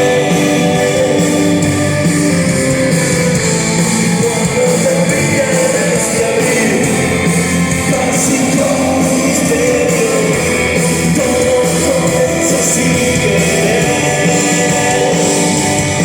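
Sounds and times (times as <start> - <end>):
person singing: 0.0 - 16.0
rock song with guitars: 0.0 - 16.0.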